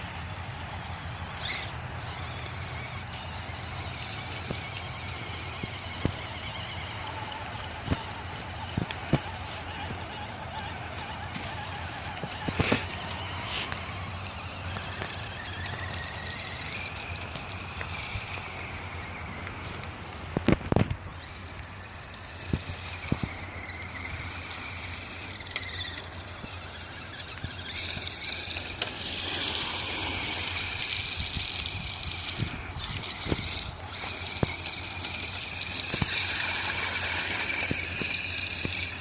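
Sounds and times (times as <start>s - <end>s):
toy truck electric motor whining: 0.0s - 39.0s.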